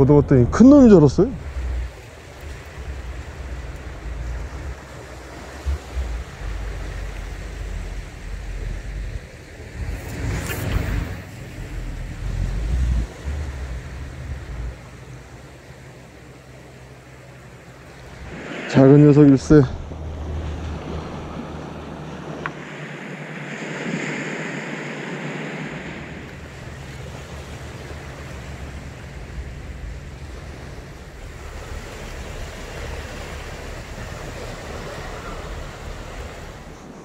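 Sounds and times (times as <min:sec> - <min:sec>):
wind rumbling on microphone: 0:00.0 - 0:37.0
waves washing onto sand: 0:01.3 - 0:37.0.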